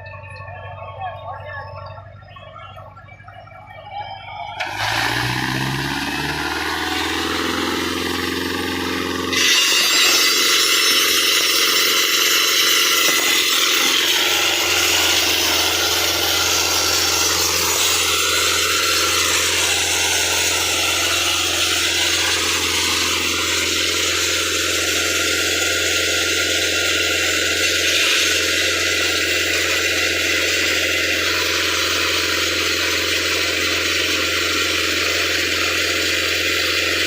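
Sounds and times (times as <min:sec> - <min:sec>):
low hum: 0:00.0 - 0:33.1
rock drill boring into stone: 0:06.4 - 0:37.0.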